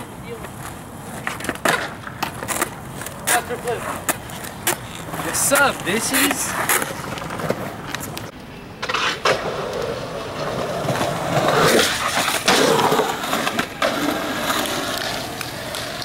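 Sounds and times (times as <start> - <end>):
skateboard clacks: 0.0 - 16.0
skateboard wheels rolling on concrete: 0.0 - 16.0.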